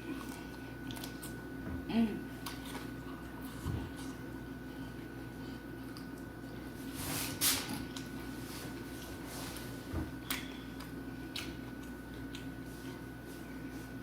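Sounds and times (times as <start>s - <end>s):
soft chewing: 0.0s - 6.9s, 7.6s - 14.0s
faint hum: 0.0s - 14.0s.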